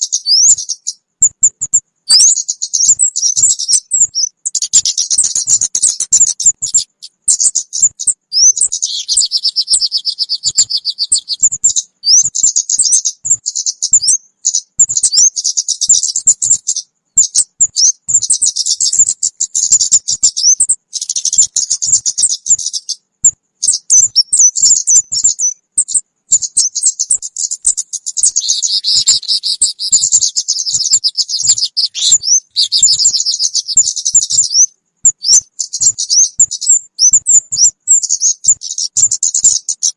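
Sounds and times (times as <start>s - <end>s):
high-pitched bird chirping and trills: 0.0s - 39.9s.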